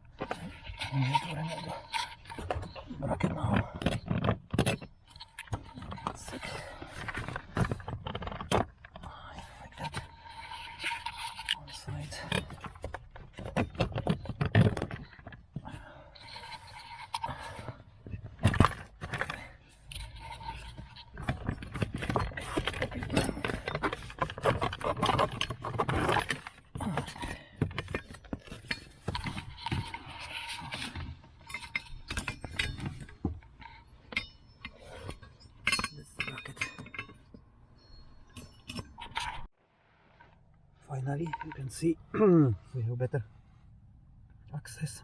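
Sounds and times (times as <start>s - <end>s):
metal rattling against plastic: 0.0s - 39.5s.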